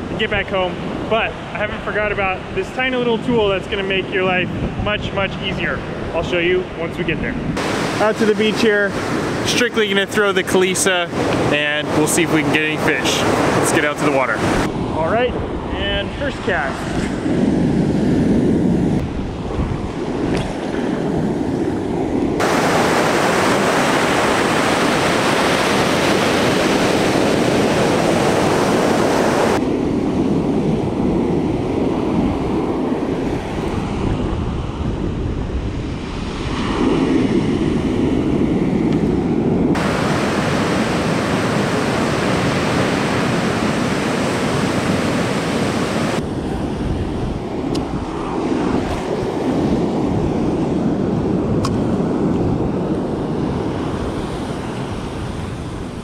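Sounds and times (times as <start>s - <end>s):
wind on microphone: 0.0s - 56.0s
ocean surf breaking: 7.5s - 56.0s.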